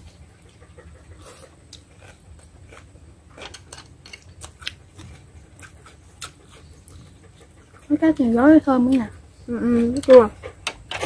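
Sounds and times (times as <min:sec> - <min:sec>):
chewing and crunching food: 0:00.0 - 0:10.7.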